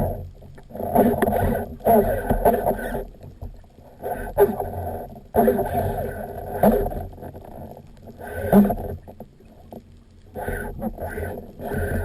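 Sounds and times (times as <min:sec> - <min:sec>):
water surging: 0:00.0 - 0:12.0.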